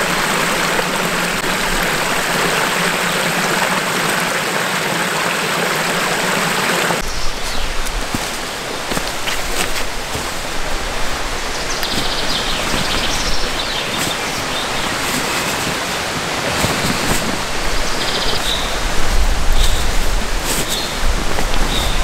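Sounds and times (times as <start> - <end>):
creek water flowing: 0.0 - 22.0
rain falling on forest: 0.0 - 22.0.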